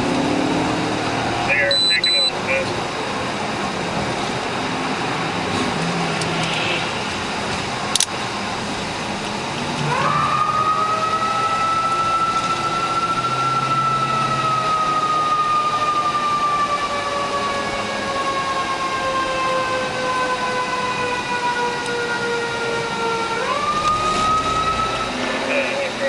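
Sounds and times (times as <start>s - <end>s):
emergency vehicle siren: 0.0s - 26.0s
road noise: 0.0s - 26.0s.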